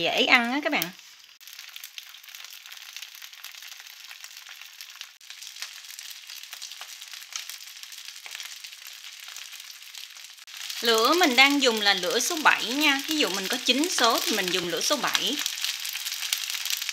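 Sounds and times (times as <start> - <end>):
rice cakes sizzling in oil: 0.0 - 16.9.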